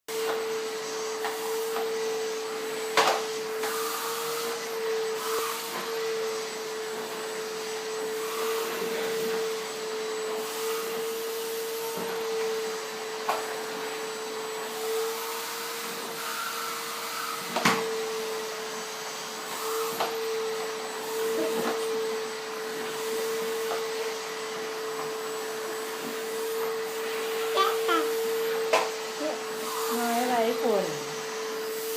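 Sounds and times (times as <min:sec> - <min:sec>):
vacuum cleaner running: 0:00.1 - 0:31.9.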